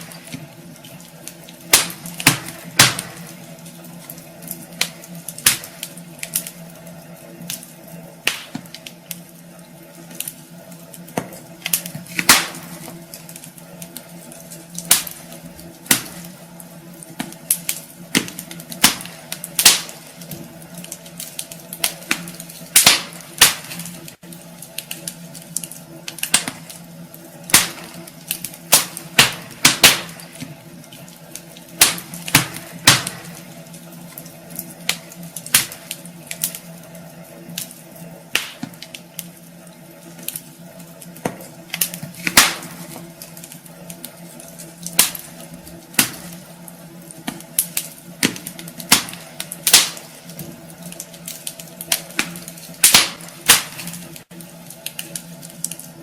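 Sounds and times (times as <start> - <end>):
faint steady hum: 0.0 - 56.0
wood fire crackling and popping: 0.0 - 56.0.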